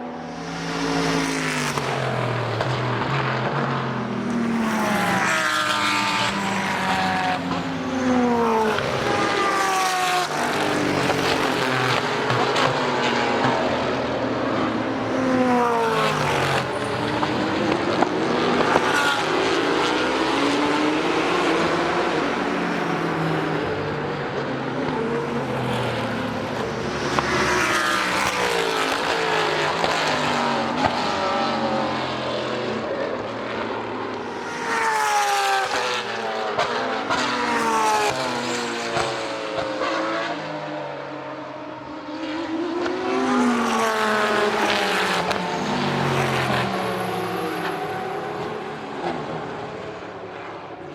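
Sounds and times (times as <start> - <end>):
race cars passing at speed: 0.0 - 50.9.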